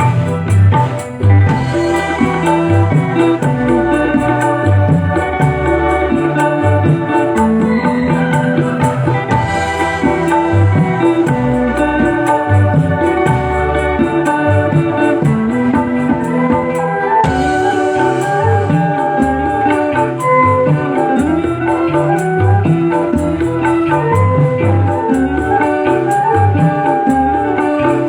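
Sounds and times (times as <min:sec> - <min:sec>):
instrumental music with beat: 0:00.0 - 0:28.0.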